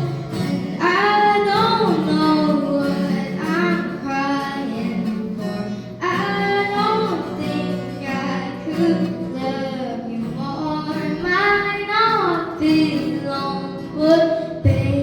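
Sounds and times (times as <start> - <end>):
acoustic guitar: 0.0 - 15.0
woman singing pop song: 0.0 - 15.0.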